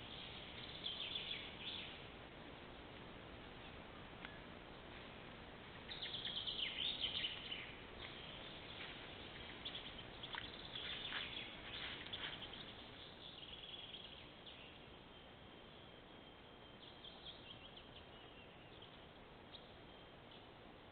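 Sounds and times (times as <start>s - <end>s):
small birds chirping: 0.0s - 20.6s.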